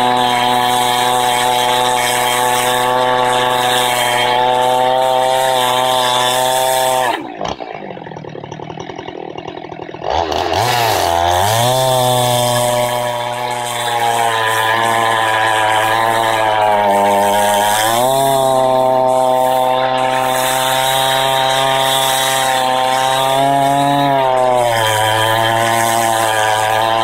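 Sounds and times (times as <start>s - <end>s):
chainsaw cutting through log: 0.0s - 27.0s.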